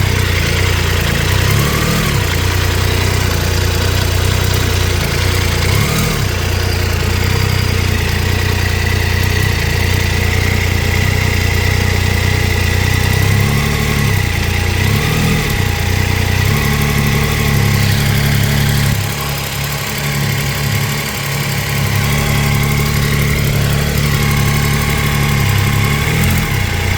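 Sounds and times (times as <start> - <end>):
engine ticking: 0.0 - 26.9
motorcycle engine idling: 0.0 - 26.9.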